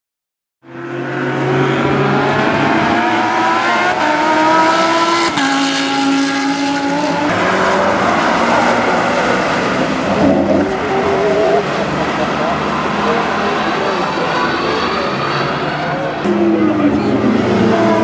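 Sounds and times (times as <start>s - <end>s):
racing car engine at speed: 0.6s - 18.0s.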